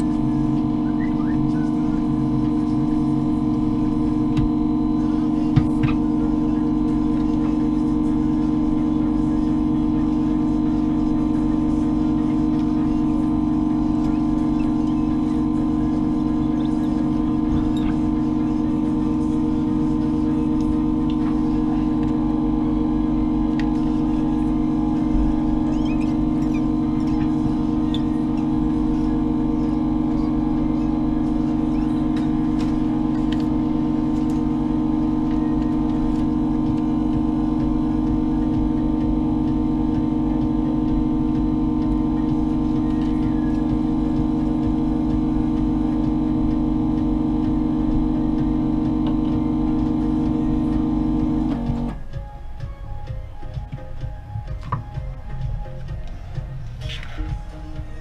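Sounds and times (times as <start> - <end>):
electrical machine hum: 0.0 - 58.0.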